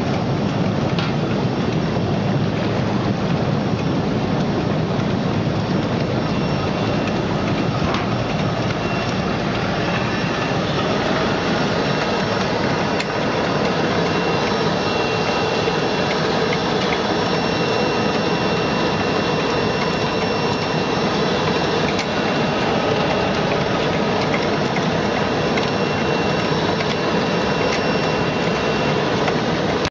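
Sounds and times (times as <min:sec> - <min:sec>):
machine motor whine and rattle: 0:00.0 - 0:29.9
water churning and bubbling: 0:00.0 - 0:29.9.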